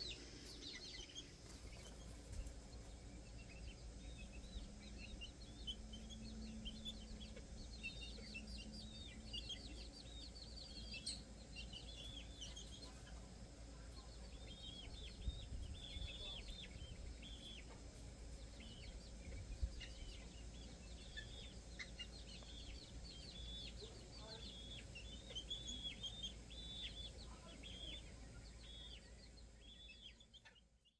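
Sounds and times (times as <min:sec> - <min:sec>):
chicks peeping: 0:00.0 - 0:30.9
low background rumble: 0:00.0 - 0:30.9.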